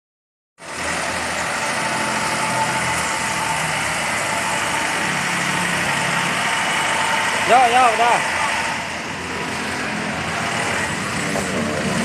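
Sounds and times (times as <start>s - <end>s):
truck engine idling: 0.6s - 12.0s.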